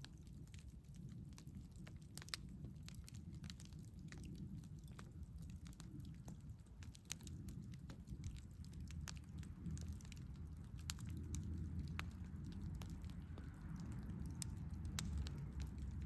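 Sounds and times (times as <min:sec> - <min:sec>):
low rumble of burning fire: 0:00.0 - 0:16.0
wood fire crackling: 0:00.0 - 0:16.0.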